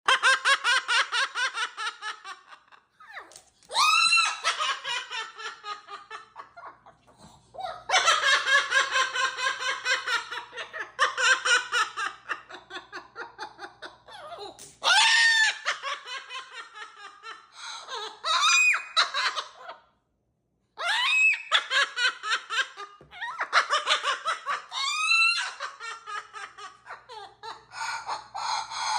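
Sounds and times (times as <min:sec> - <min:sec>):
parrot mimicking evil laugh: 0:00.1 - 0:19.9, 0:20.8 - 0:28.9.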